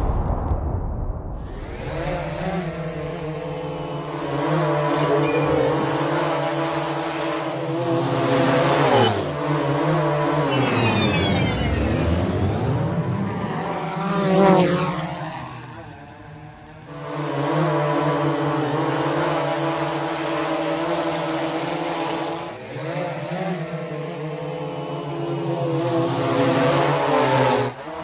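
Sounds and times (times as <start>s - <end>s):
drone propellers buzzing: 1.4s - 28.0s.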